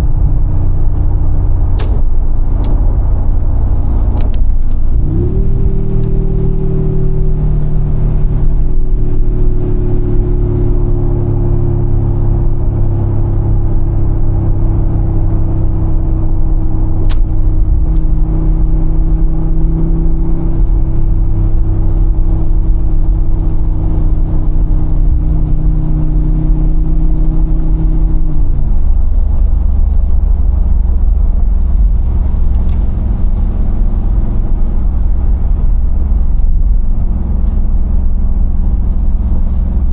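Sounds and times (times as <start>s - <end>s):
car engine deep rumble: 0.0s - 39.9s.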